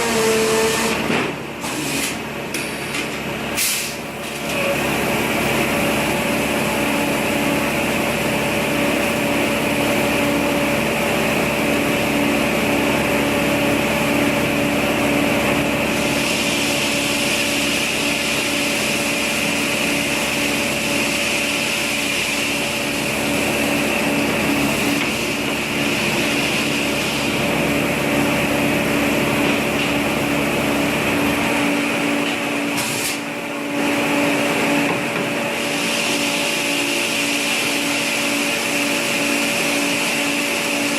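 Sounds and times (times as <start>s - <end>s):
small engine running steadily: 0.0s - 40.9s.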